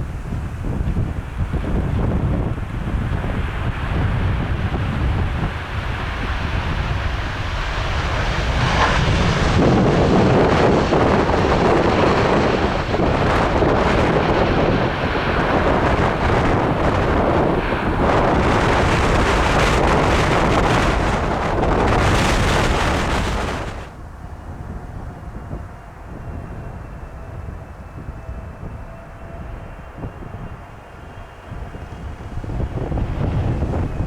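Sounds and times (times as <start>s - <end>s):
faint jet engine whine: 0.0s - 34.0s
jet engines roaring: 0.0s - 34.0s
wind buffeting microphone: 0.0s - 34.0s.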